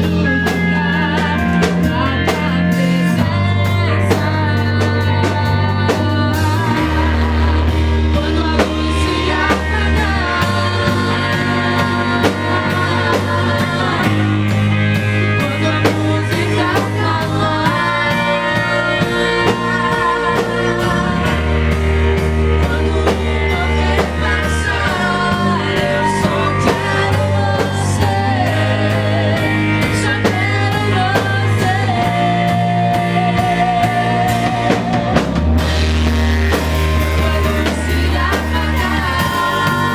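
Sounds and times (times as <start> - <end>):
singing: 0.0 - 35.2, 36.5 - 39.9
live band playing: 0.0 - 39.9.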